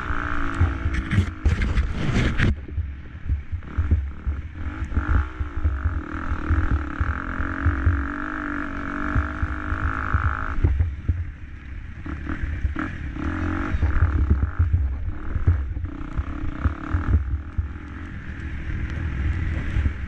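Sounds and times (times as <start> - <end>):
motocross bike engine revving: 0.0 - 20.0
wind rumble on microphone: 0.0 - 20.0.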